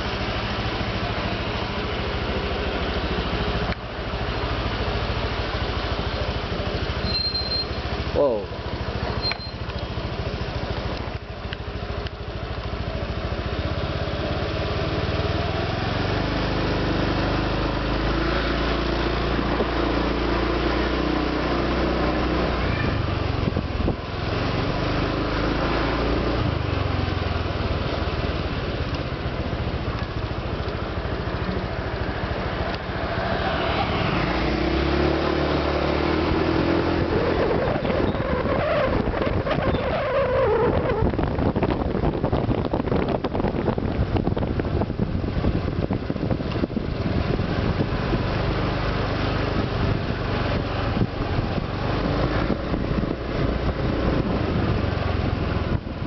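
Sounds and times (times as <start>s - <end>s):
scooter engine running: 0.0s - 35.2s, 36.1s - 56.0s.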